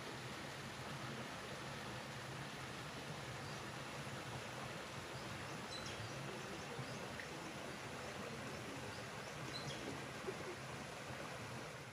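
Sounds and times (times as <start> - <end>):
creek running over rocks: 0.0 - 11.9.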